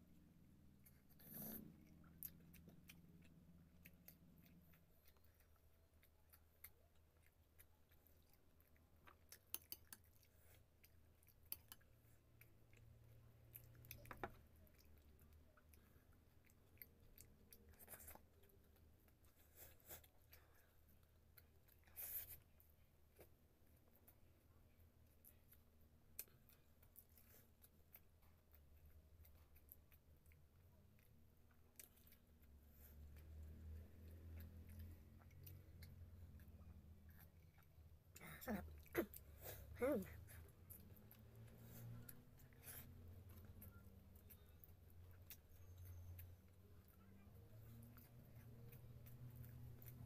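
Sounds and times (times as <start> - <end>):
low steady hum: 0.0 - 50.0
person chewing: 0.8 - 50.0.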